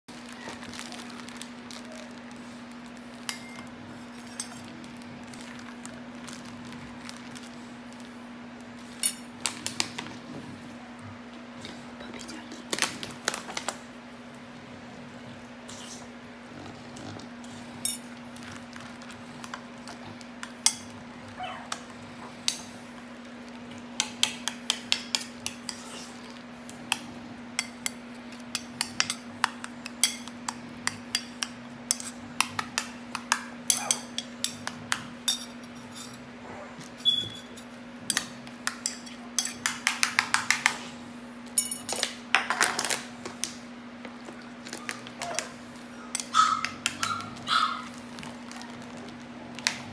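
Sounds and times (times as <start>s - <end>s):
steady low hum: 0.1s - 49.9s.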